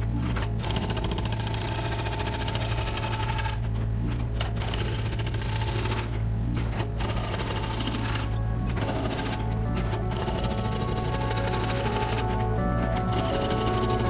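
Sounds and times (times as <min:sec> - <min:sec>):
excavator engine running: 0:00.0 - 0:14.0
hydraulic breaker hammering concrete: 0:00.0 - 0:14.0.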